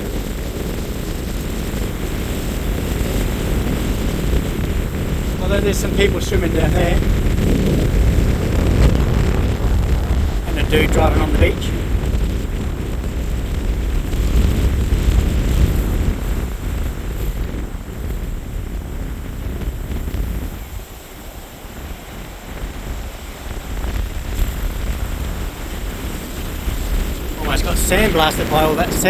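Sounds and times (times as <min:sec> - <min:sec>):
gusting wind buffeting microphone: 0:00.0 - 0:29.0
deep rumble: 0:00.8 - 0:29.0.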